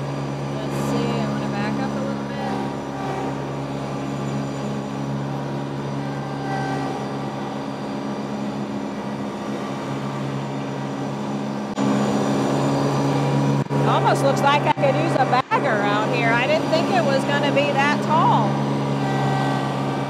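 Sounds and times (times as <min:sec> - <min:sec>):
mower cutting grass: 0:00.0 - 0:20.0
tractor diesel engine running: 0:00.0 - 0:20.0.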